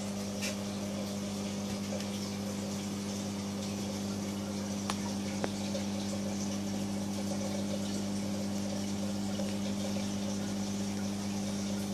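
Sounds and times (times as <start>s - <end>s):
aquarium pumps humming: 0.0s - 11.9s.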